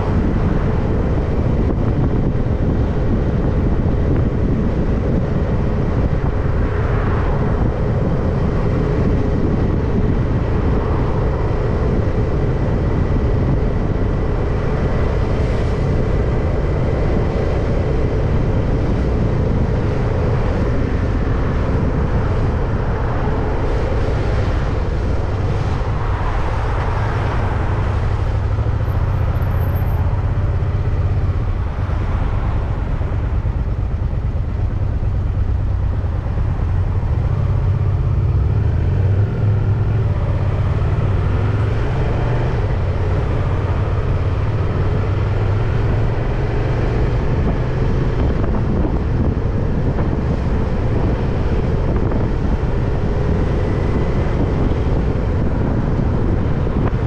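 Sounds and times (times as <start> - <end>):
motor traffic passing: 0.0 - 57.0
road rumble: 0.0 - 57.0
wind on microphone: 0.0 - 57.0.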